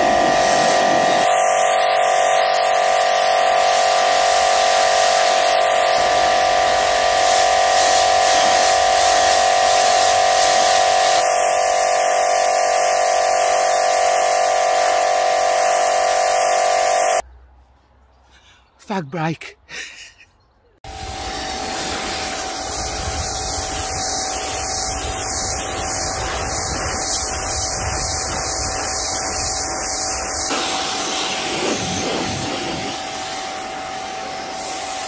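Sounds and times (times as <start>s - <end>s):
pressure washer whine: 0.0s - 17.2s, 20.8s - 35.0s
water jet spraying onto concrete: 0.0s - 17.2s, 21.0s - 35.0s.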